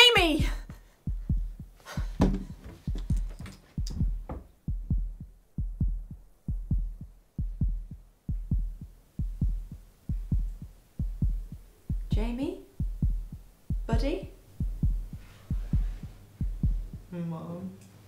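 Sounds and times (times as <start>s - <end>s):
heartbeat double thump: 0.2s - 17.1s.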